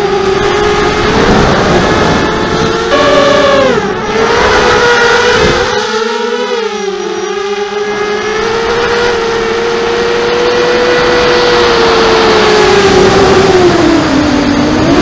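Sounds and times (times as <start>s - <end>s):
rushing wind: 0.0s - 6.2s, 7.9s - 15.0s
drone motors and propellers whining: 0.0s - 15.0s.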